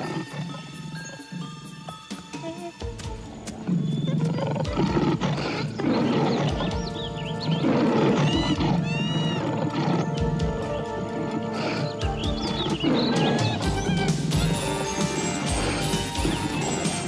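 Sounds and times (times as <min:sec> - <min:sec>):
lion roaring: 0:00.0 - 0:00.8, 0:03.7 - 0:17.0
music: 0:00.0 - 0:17.0.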